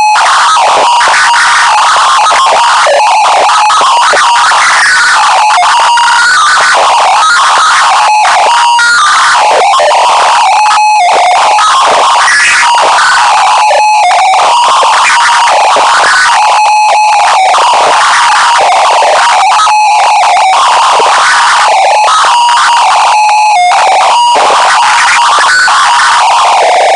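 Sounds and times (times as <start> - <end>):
harsh distorted noise: 0.0 - 26.9.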